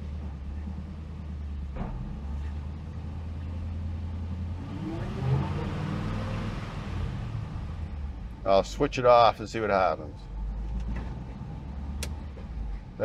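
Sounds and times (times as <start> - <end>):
car engine running and revving: 0.0 - 13.0.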